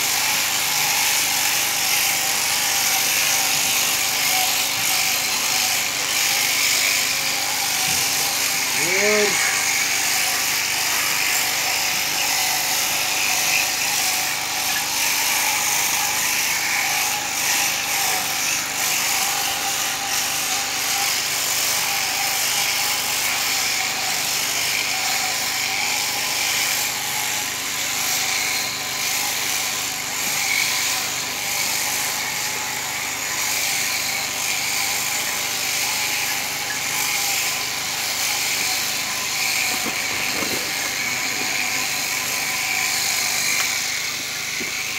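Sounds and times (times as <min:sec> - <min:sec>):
shearing machine cutting fleece: 0:00.0 - 0:44.9.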